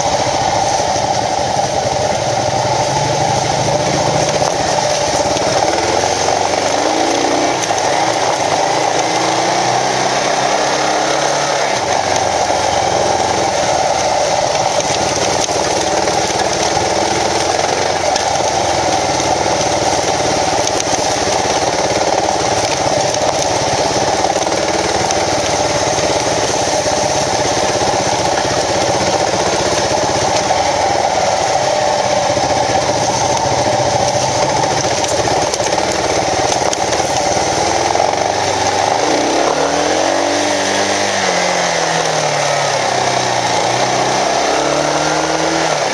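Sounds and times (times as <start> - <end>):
constant rushing noise: 0.0 - 45.9
motorcycle engine running: 0.0 - 45.9.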